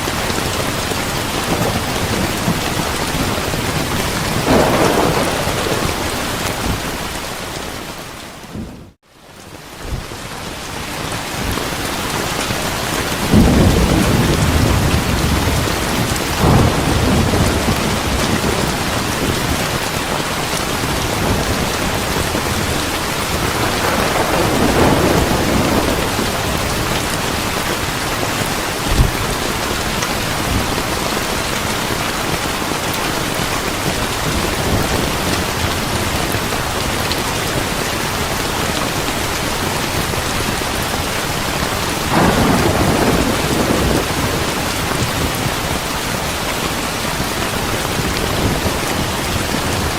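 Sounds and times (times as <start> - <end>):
heavy rain: 0.0 - 49.9
thunder rumbling: 0.1 - 9.0, 12.5 - 49.9.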